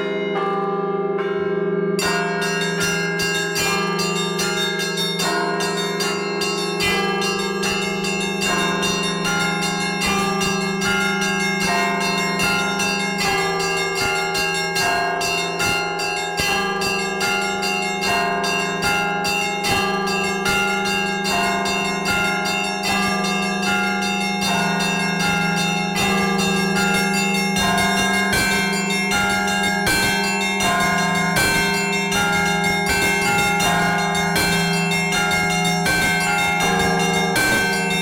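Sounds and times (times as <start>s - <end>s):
hum of large bells: 0.0s - 38.0s
small church bells ringing fast: 0.0s - 38.0s.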